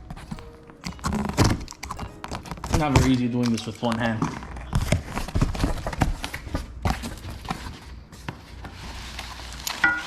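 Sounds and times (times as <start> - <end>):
cardboard and packaging rustling: 0.0 - 10.0.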